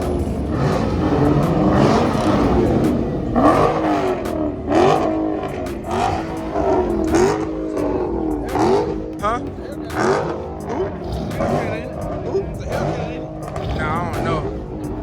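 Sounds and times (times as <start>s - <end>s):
car engine revving: 0.0s - 15.0s
exhaust crackling pops: 0.0s - 15.0s.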